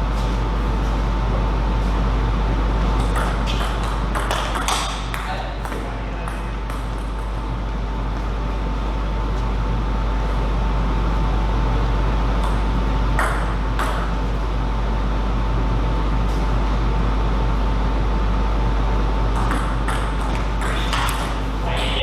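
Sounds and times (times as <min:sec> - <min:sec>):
loud hum and hiss: 0:00.0 - 0:22.0.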